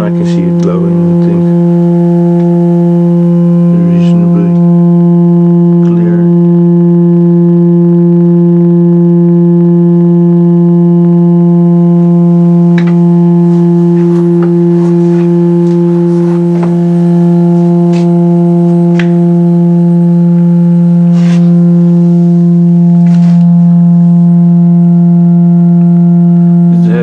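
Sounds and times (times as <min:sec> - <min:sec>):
metal tube resonating hum: 0:00.0 - 0:27.0.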